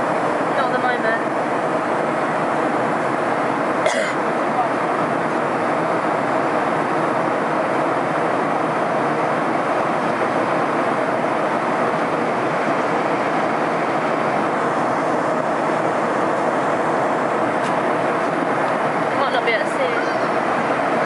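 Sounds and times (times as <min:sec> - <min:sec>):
airliner cabin noise: 0:00.0 - 0:21.0.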